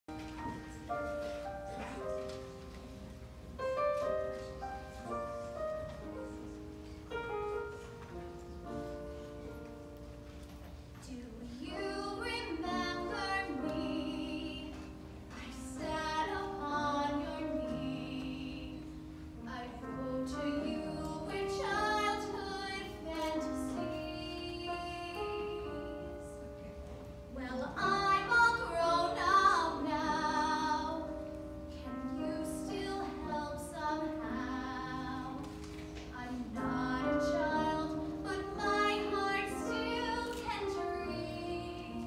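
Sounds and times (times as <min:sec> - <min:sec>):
piano playing: 0:00.0 - 0:42.0.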